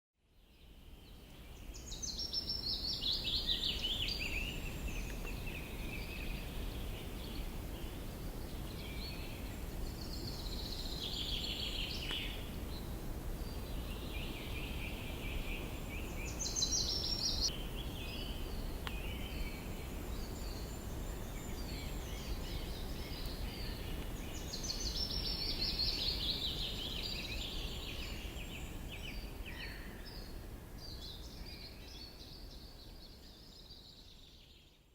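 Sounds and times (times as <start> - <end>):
songbirds singing: 0.4 - 34.9.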